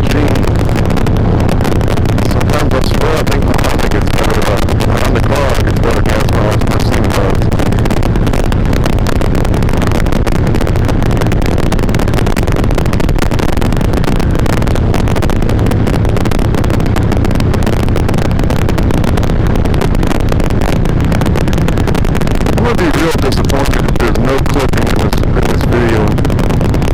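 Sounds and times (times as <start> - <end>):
motorcycle engine running: 0.0 - 26.9
wind rush over microphone: 0.0 - 26.9.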